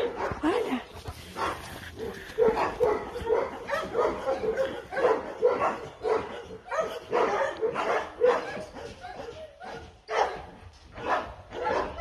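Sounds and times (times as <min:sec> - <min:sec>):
dog barking: 0:00.0 - 0:00.6, 0:01.4 - 0:12.0.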